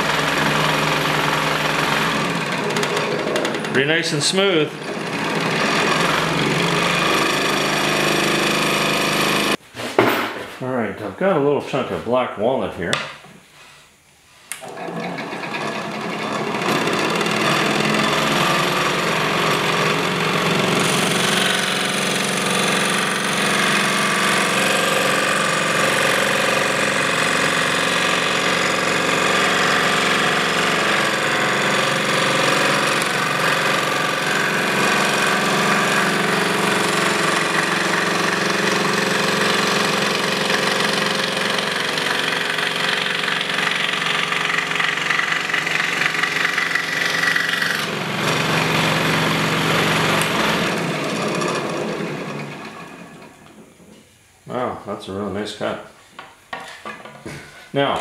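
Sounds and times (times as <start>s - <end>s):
scroll saw cutting wood: 0.0s - 9.6s, 14.5s - 53.9s.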